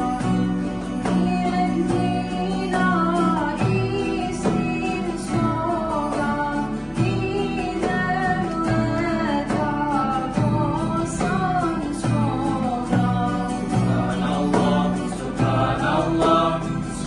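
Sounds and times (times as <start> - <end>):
keyboard: 0.0 - 17.0
strummed acoustic guitars: 0.0 - 17.0
woman singing devotional song: 0.0 - 17.0.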